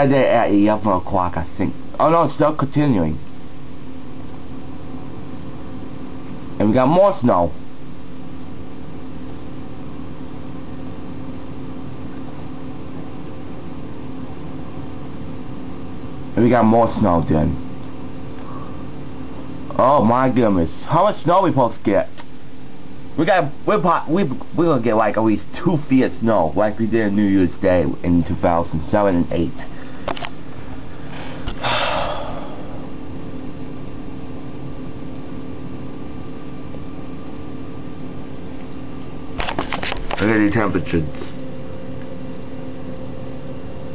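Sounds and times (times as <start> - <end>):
steady mechanical hum: 0.0 - 43.9.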